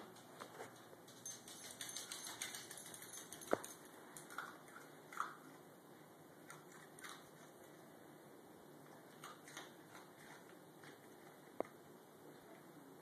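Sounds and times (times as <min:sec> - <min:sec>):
puppy eating with small clicks: 0:00.0 - 0:05.7, 0:06.4 - 0:07.9, 0:08.8 - 0:12.7.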